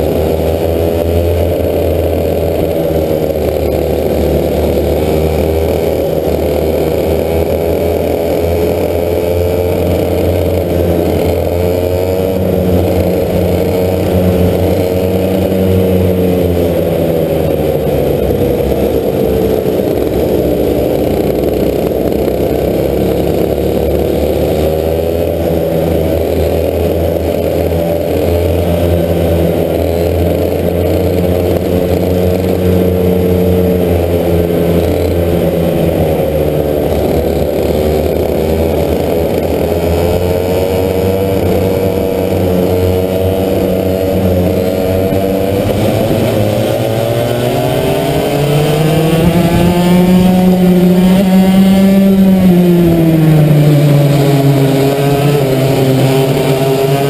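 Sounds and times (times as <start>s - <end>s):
kart engine revving: 0.0s - 57.0s
low drone: 0.0s - 57.0s.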